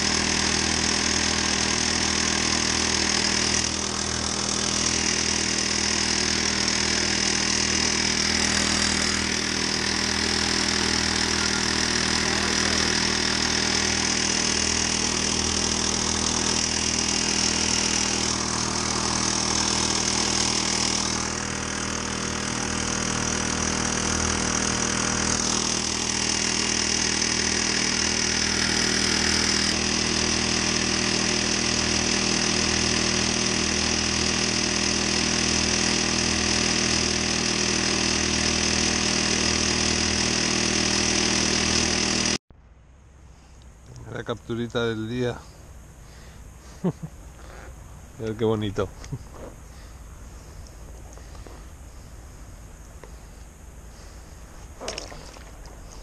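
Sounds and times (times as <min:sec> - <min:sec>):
outboard motor running: 0:00.0 - 0:42.4, 0:43.3 - 0:56.0.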